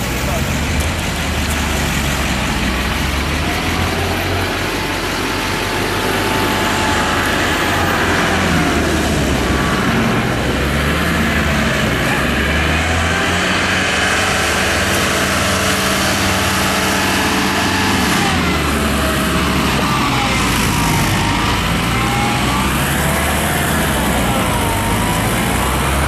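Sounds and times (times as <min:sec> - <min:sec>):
large machinery engine running: 0:00.0 - 0:26.0.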